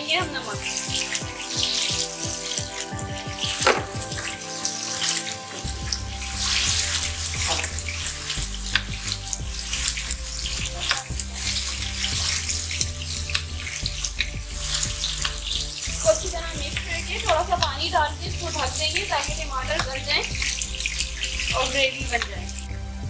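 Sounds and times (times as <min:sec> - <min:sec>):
tomatoes sizzling in oil: 0:00.0 - 0:23.0.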